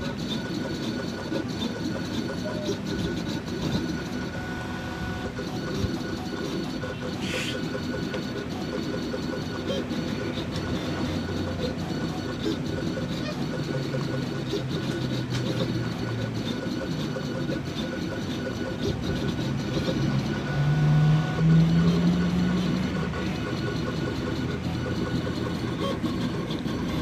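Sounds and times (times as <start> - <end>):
plotter stepper motors whirring: 0.0 - 27.0.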